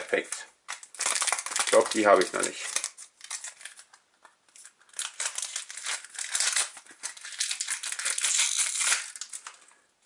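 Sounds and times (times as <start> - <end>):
cards rustling: 0.1 - 9.7
foil wrapper crinkling: 0.1 - 9.7.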